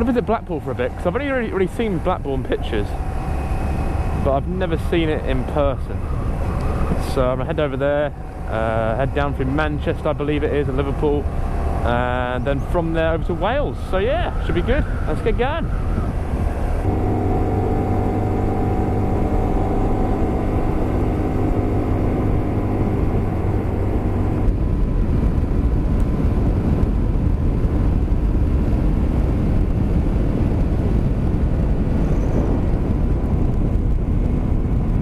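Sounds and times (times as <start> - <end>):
motorcycle engine running: 0.0 - 13.6, 15.7 - 35.0
wind and road noise: 0.0 - 35.0.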